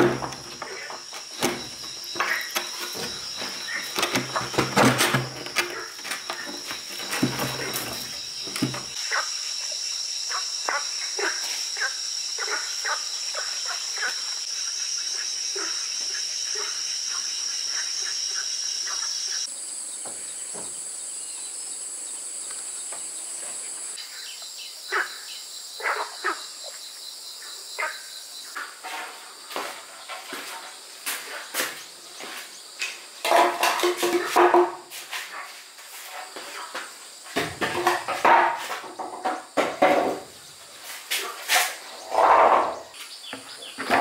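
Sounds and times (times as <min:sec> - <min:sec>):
insects chirping chorus: 0:00.0 - 0:44.0.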